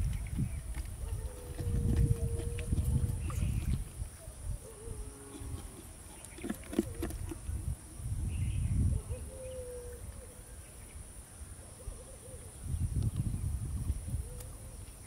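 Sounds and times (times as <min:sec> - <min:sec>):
wind rumble on microphone: 0:00.0 - 0:10.2, 0:12.0 - 0:15.0.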